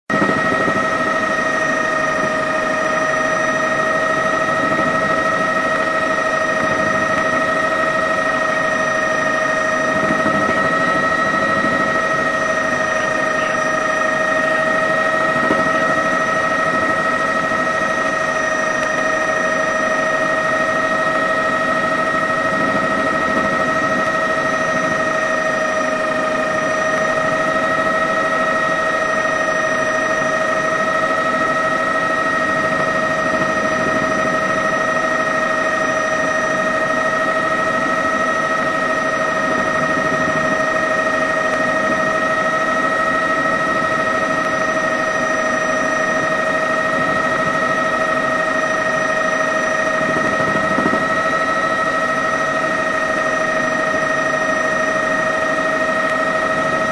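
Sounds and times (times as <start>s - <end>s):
helicopter high whine: 0.0s - 56.9s
helicopter rushing noise: 0.1s - 56.9s.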